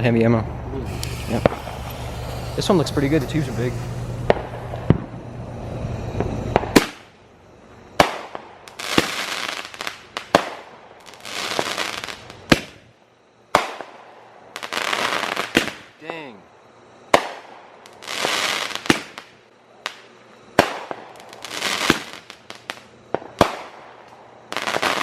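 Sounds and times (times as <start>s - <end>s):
firework reports: 0.0s - 12.8s, 14.6s - 16.5s, 17.1s - 25.0s
firework crackle: 0.8s - 7.3s, 8.0s - 12.9s, 13.5s - 16.3s, 17.1s - 25.0s.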